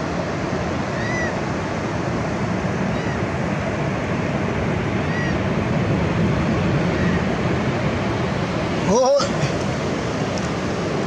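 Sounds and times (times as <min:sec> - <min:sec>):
surf and wind rushing: 0:00.0 - 0:11.0.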